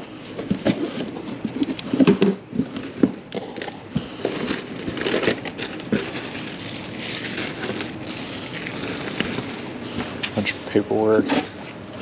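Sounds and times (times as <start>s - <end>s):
plastic and paper rustling: 0.3s - 12.0s.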